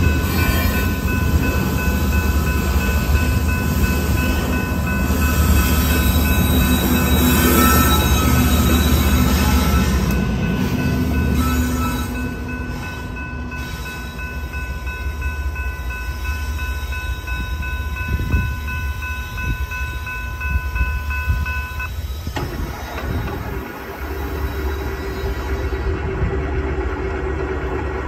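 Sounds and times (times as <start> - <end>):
crossing bell ringing: 0.0 - 25.9.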